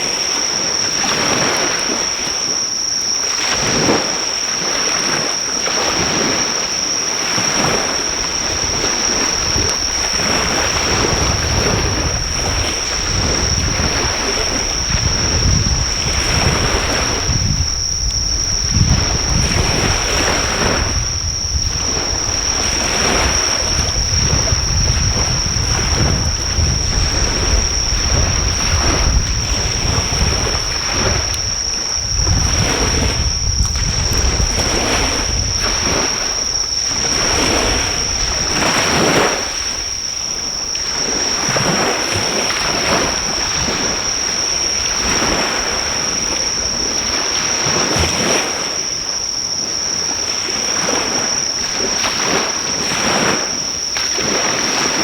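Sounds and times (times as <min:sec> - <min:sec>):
high-pitched insect trill: 0:00.0 - 0:55.0
sea waves washing onto shore: 0:00.0 - 0:55.0
wind rumbling on microphone: 0:00.0 - 0:55.0.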